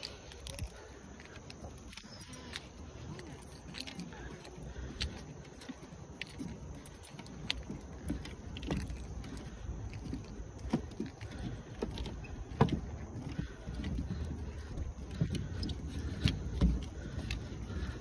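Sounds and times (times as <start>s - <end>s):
footsteps on wooden deck: 0.0s - 18.0s.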